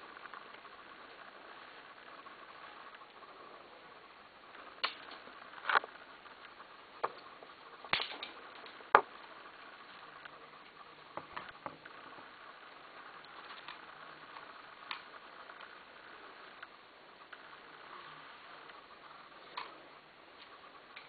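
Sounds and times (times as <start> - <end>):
low hiss: 0.0 - 21.0.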